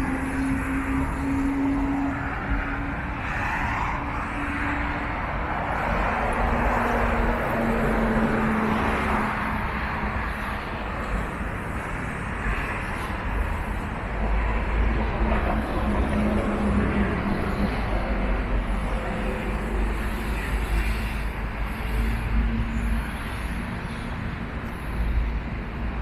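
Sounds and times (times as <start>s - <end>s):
cars and buses driving past: 0.0s - 26.0s.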